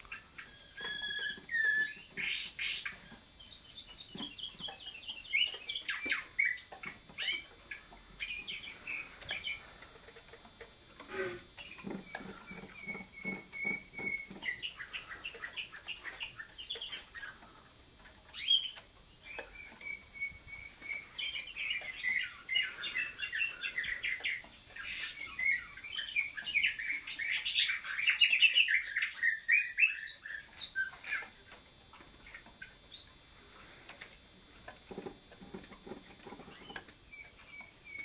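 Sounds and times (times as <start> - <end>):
songbirds singing: 0.0 - 38.0.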